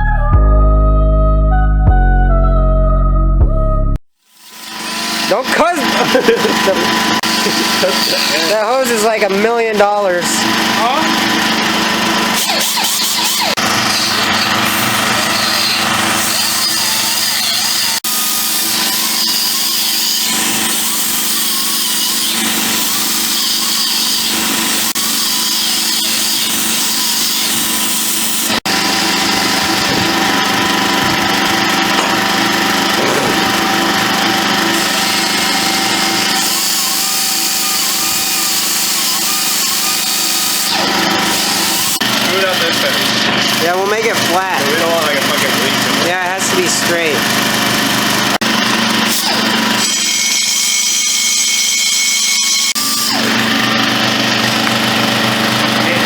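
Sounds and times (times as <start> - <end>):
cutoff wheel grinding steel pipe: 4.3 - 56.0.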